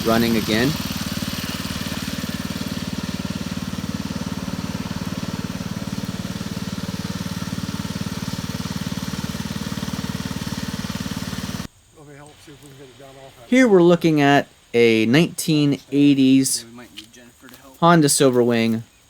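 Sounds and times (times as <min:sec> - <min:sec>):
garden tractor engine running: 0:00.0 - 0:18.8.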